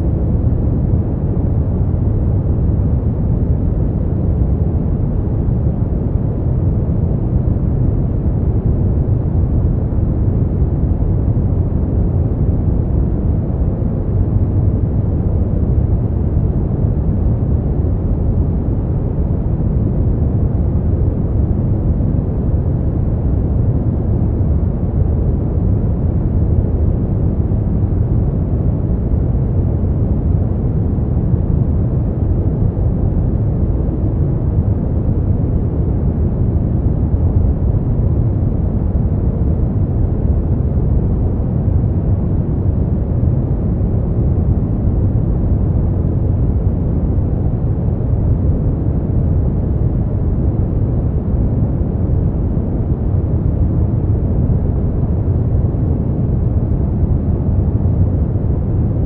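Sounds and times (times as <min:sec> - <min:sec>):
brown noise rumbling hiss: 0:00.0 - 0:59.0.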